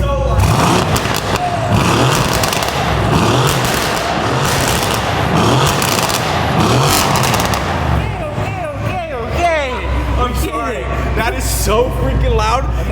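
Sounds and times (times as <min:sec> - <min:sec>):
exhaust crackles: 0:00.0 - 0:12.9
loud car engine revving: 0:00.0 - 0:12.9.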